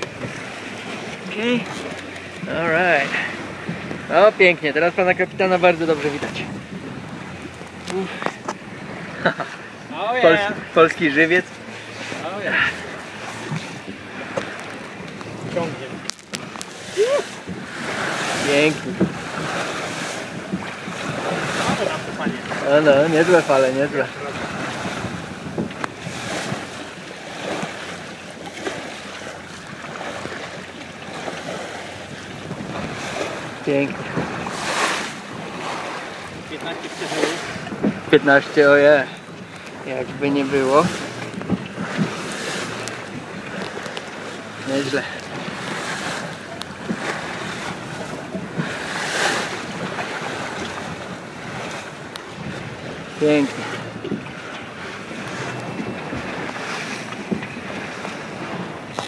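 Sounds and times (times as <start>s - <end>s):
bow wave rushing along hull: 0.0s - 59.0s
wind buffeting microphone: 0.0s - 59.0s.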